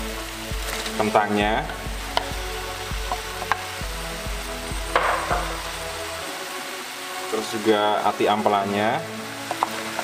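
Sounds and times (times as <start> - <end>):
spice paste sizzling in a wok: 0.0 - 10.0.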